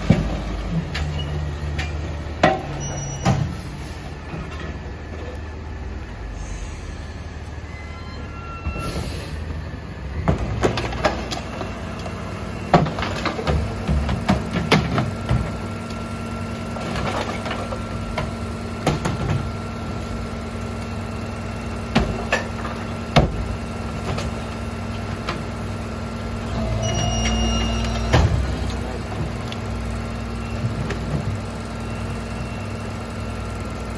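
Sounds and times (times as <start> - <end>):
garbage truck engine rumble: 0.0 - 33.9.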